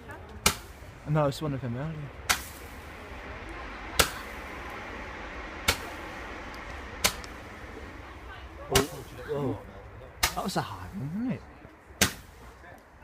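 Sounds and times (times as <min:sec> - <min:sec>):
steady hiss: 0:00.0 - 0:13.0
fireworks bangs: 0:00.3 - 0:11.0.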